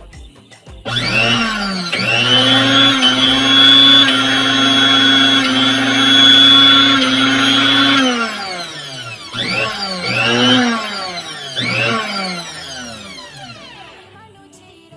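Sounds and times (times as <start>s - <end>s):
mixer grinder motor whine: 0.9s - 14.2s.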